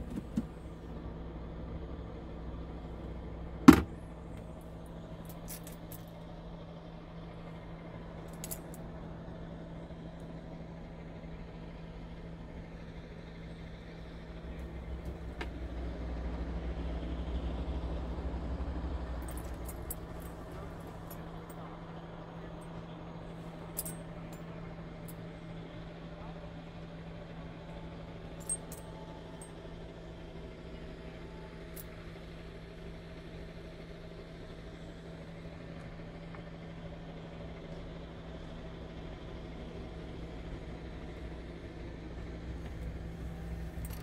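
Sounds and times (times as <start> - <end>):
truck cab low hum: 0.0 - 44.0.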